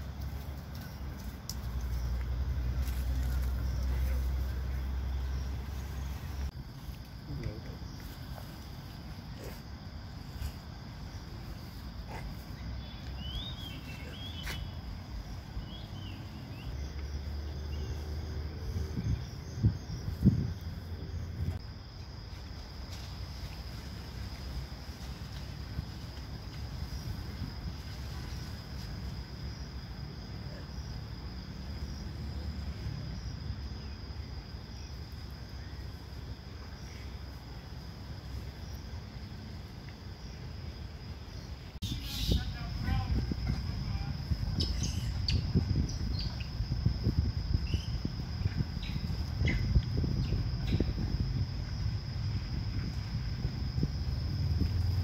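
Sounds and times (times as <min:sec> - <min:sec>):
faint insect chirps: 0:00.0 - 0:55.0
insect high-pitched drone: 0:00.0 - 0:55.0.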